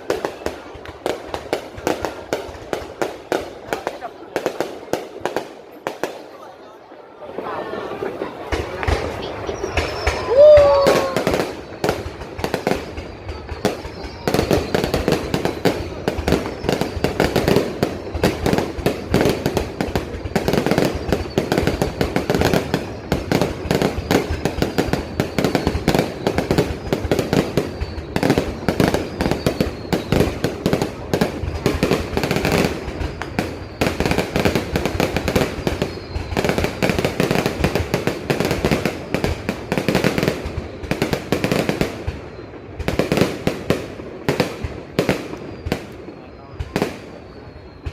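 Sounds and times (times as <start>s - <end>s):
fireworks bangs and crackles: 0.0s - 47.9s
fireworks falling whistles: 0.0s - 47.9s.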